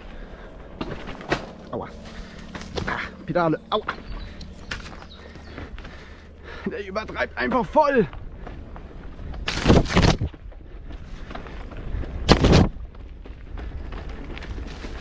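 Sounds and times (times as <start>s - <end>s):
bike rattling over bumps: 0.0s - 15.0s
bike rolling rumble: 0.0s - 15.0s.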